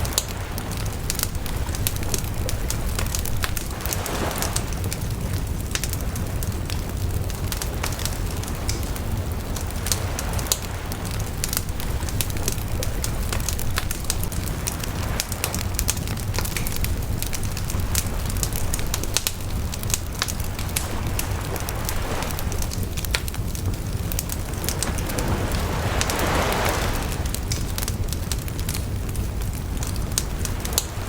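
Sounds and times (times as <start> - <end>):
bonfire crackling and popping: 0.0 - 31.0.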